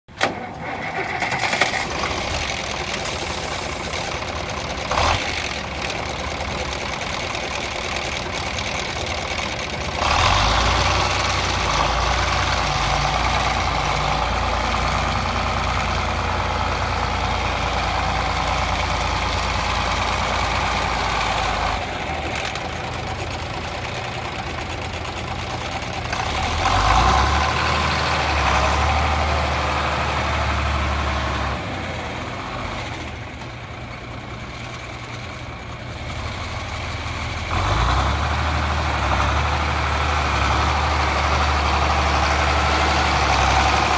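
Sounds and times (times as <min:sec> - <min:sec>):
tractor engine running: 0:00.1 - 0:43.9.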